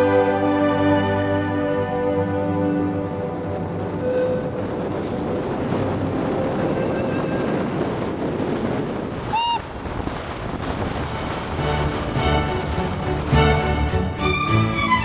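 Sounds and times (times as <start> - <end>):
steady rushing noise: 1.2 - 15.0.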